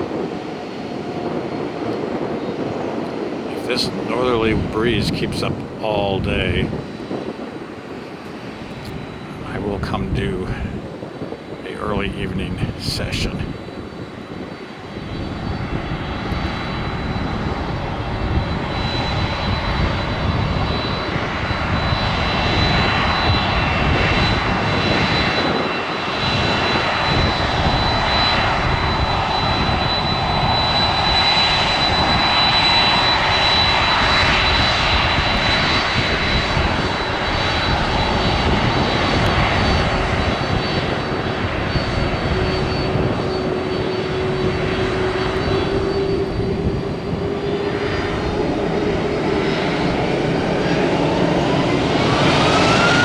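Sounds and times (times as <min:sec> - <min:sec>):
jet engines rushing: 0:00.0 - 0:53.0
high whine: 0:00.2 - 0:53.0.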